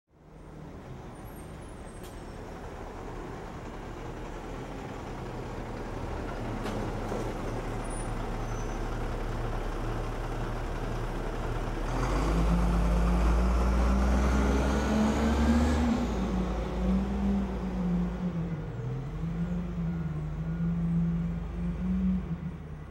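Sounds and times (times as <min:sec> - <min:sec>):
road traffic noise: 0:00.1 - 0:22.9
heavy vehicle engine drone: 0:00.2 - 0:22.9.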